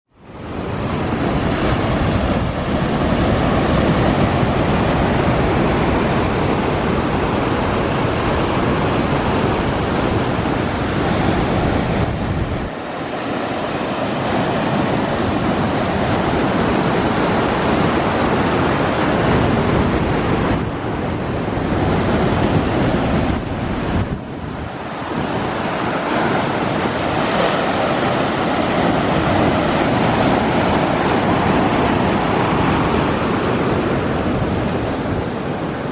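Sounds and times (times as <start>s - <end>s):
heavy surf breaking on shore: 0.2s - 35.9s
wind buffeting microphone: 0.3s - 35.9s.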